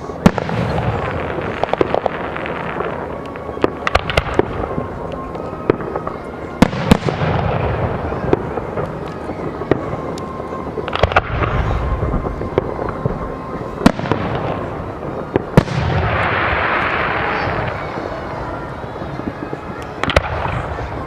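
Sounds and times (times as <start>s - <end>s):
firework bangs: 0.0s - 21.0s
fireworks rumbling and crackling: 0.0s - 21.0s.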